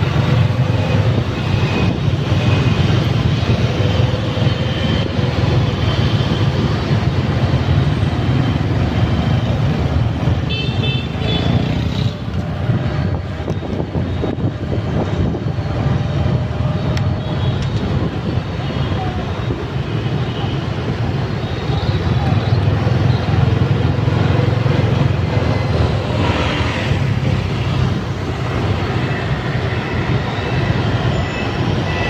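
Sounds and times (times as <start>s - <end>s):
motorbike engines rumbling: 0.0s - 32.0s.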